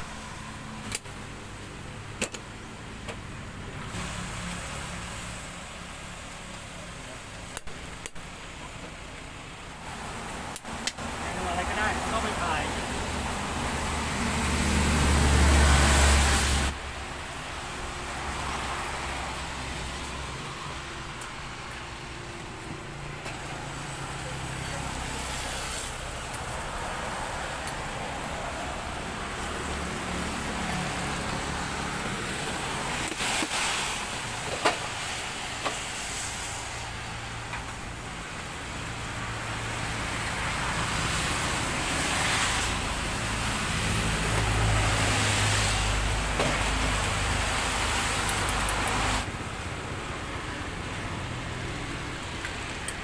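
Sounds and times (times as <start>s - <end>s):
street traffic: 0.0s - 53.0s.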